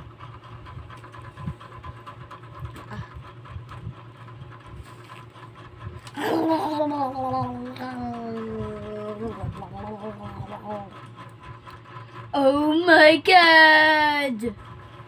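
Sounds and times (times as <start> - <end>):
electric fan hum: 0.0 - 15.0.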